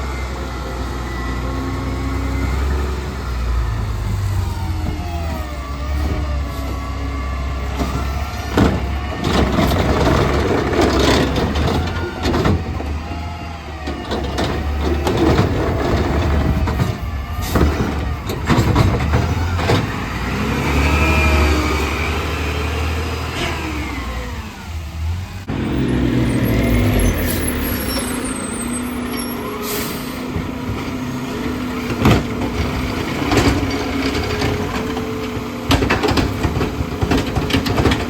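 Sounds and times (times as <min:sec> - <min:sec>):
garbage truck engine revving: 0:00.0 - 0:38.0.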